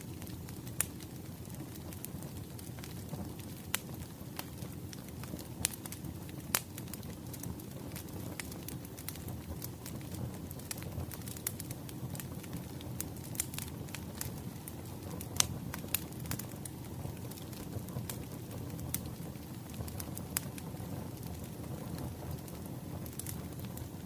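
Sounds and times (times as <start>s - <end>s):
wood fire crackling: 0.0s - 24.0s
fire pops and snaps: 0.1s - 24.0s.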